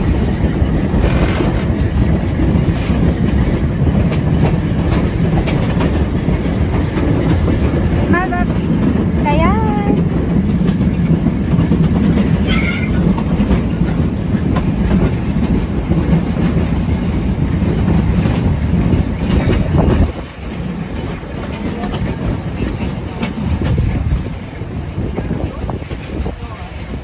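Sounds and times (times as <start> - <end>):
rail joint clicks: 0.0 - 27.0
train wheels rumbling on rail: 0.0 - 27.0.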